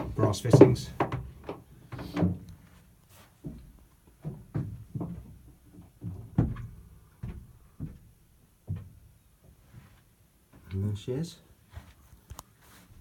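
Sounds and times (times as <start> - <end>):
footsteps on wooden boat interior: 0.0 - 10.9, 11.6 - 13.0.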